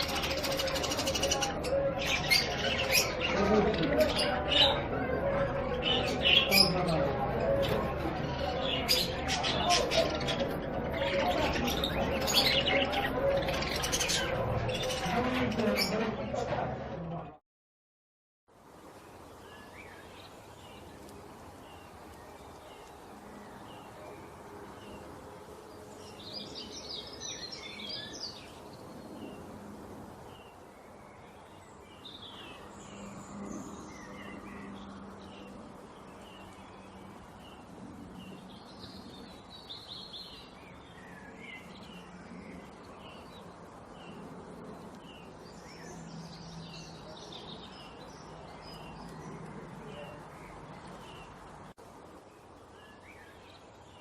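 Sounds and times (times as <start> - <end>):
songbirds chirping: 0.0 - 17.4, 18.5 - 54.0.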